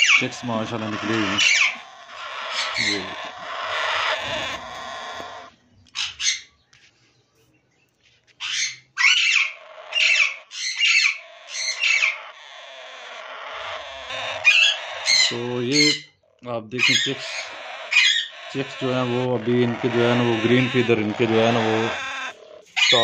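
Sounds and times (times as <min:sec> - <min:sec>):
parakeets squawking raspily: 0:00.0 - 0:06.5, 0:08.4 - 0:23.0.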